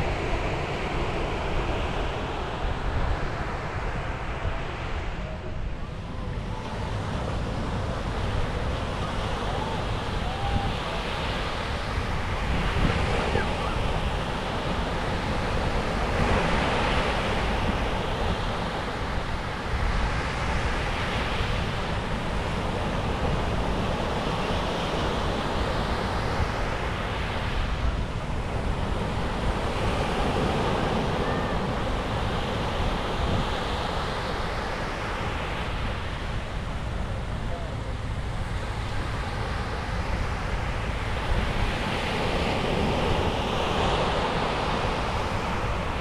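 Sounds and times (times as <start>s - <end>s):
wind rumbling on microphone: 0.0s - 46.0s
sea waves breaking on beach: 6.0s - 46.0s.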